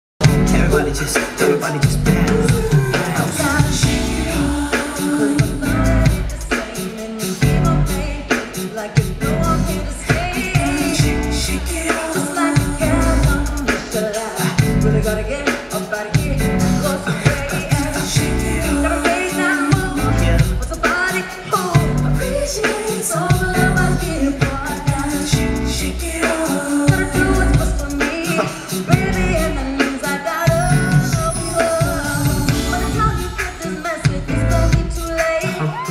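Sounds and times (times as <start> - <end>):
pop band accompaniment: 0.2 - 35.9
woman singing into microphone: 0.6 - 35.9.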